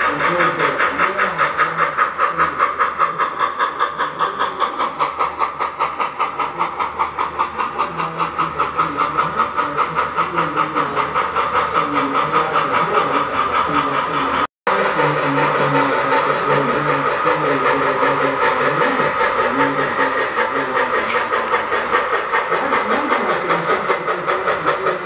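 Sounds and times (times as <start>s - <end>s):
model steam locomotive chuffing: 0.0s - 25.0s
steam hiss: 0.0s - 25.0s.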